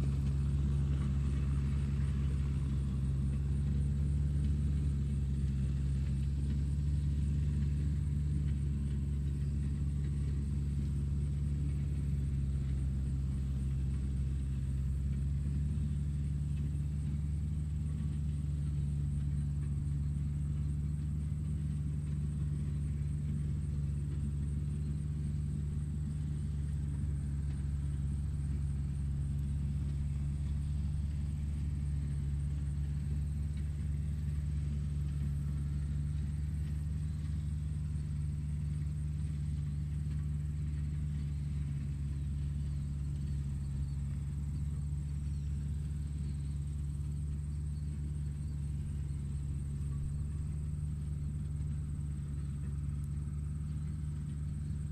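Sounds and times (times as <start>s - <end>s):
low engine hum: 0.0s - 54.9s.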